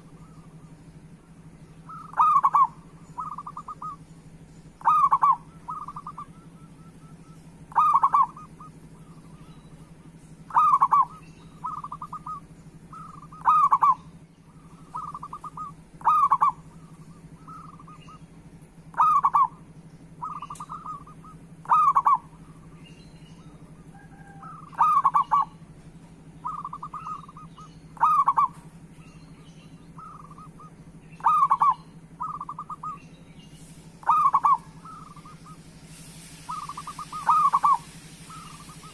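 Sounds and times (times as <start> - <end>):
dove cooing: 0.0 - 4.1, 4.8 - 22.8, 23.4 - 29.2, 29.8 - 33.0, 33.6 - 38.9
low hum: 0.0 - 38.9.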